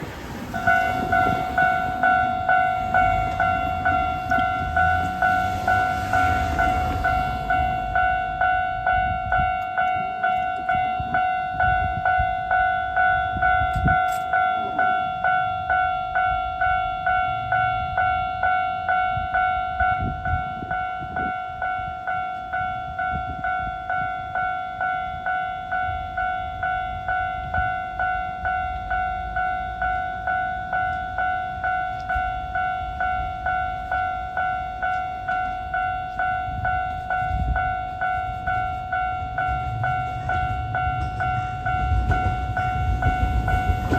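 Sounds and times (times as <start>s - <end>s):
level crossing electronic bell: 0.5s - 43.9s.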